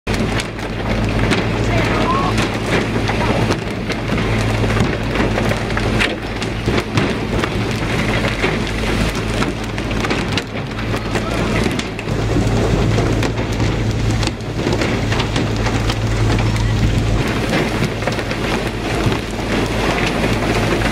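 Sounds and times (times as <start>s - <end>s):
low engine hum: 0.1s - 20.9s
sharp knocks: 0.1s - 20.9s.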